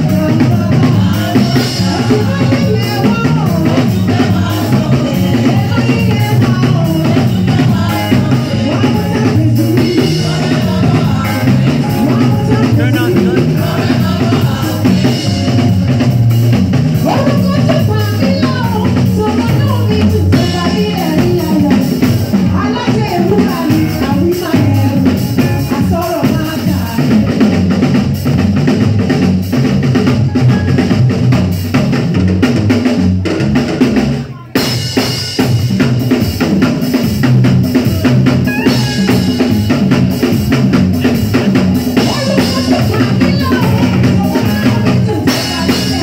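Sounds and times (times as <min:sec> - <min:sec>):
drum kit playing a steady beat: 0:00.0 - 0:46.0.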